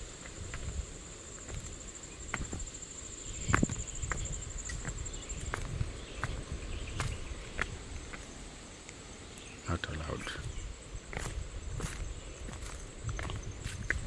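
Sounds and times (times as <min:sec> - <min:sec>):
footsteps on dirt trail: 0:00.0 - 0:14.0.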